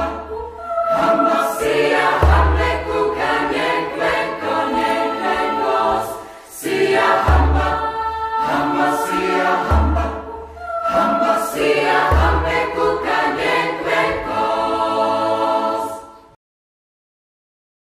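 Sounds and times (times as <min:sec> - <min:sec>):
choral singing: 0:00.0 - 0:16.4.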